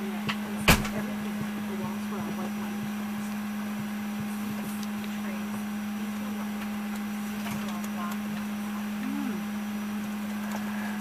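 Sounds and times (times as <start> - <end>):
aircraft cabin hum: 0.0 - 11.0
faint passenger chatter: 0.0 - 11.0.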